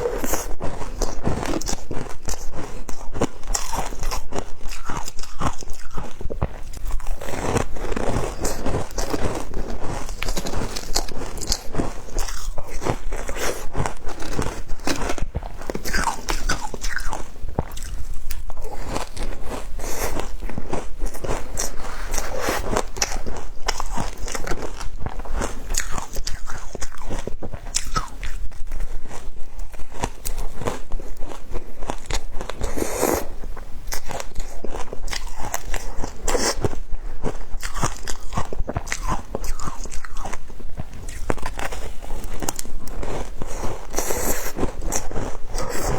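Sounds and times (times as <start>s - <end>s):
ice crunching while chewed: 0.0s - 45.9s.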